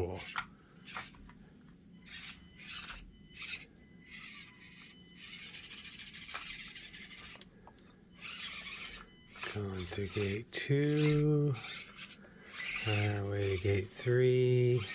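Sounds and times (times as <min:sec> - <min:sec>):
rc car tires scraping terrain: 0:00.0 - 0:01.3, 0:02.1 - 0:14.9.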